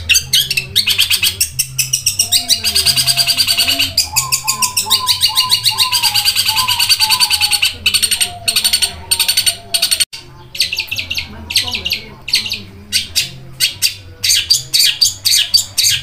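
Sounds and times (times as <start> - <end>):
bird chattering song: 0.0 - 16.0.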